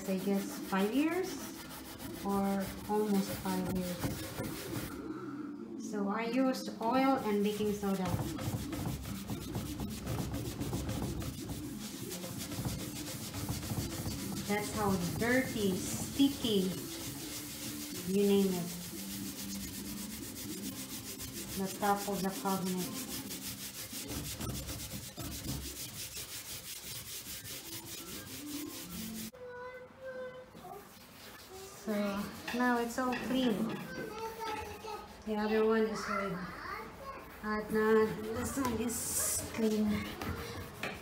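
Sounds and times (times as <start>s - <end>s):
paper towel scrubbing surface: 0.0s - 5.0s, 6.8s - 29.4s, 30.5s - 41.0s.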